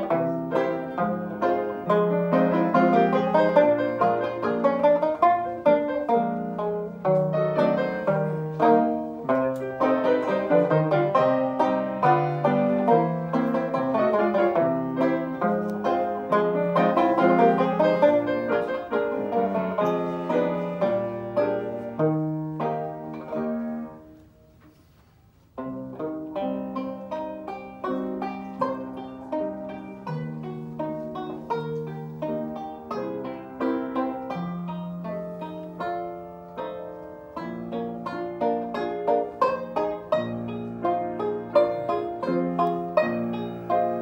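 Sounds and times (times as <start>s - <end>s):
piano chords: 0.0s - 24.2s, 25.6s - 44.0s
plucked banjo notes: 0.0s - 24.7s, 25.4s - 44.0s.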